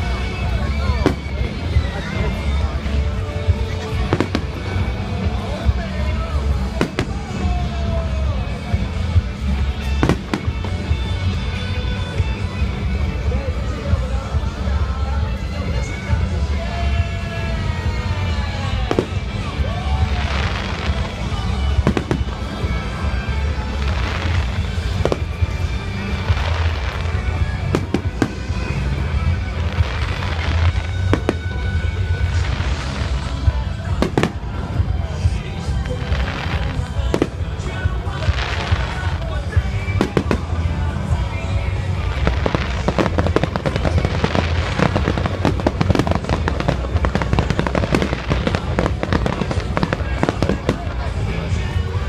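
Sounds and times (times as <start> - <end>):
fireworks bangs: 0.0 - 11.5, 15.8 - 52.0
fireworks crackling: 0.0 - 52.0
show music with heavy bass: 0.0 - 52.0.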